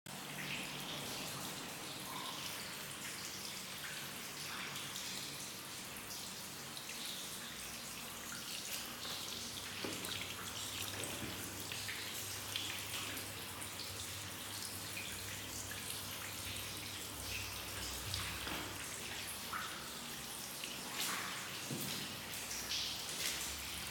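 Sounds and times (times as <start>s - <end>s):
small water drips: 0.1s - 23.9s
water trickling down steps: 0.1s - 23.9s.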